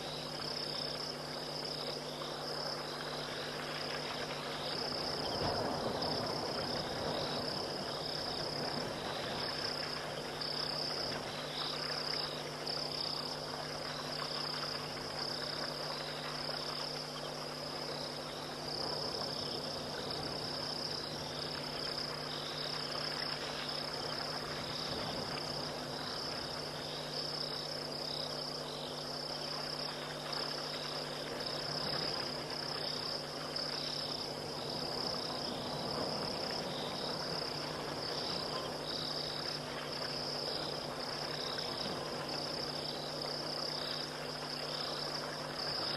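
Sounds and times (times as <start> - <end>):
crickets trilling: 0.0 - 45.9
insect pulsing chirp: 0.0 - 45.9.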